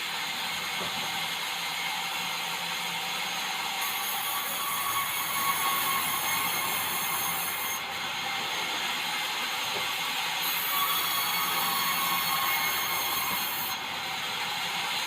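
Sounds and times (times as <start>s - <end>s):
sawmill saw cutting wood: 0.0s - 15.0s.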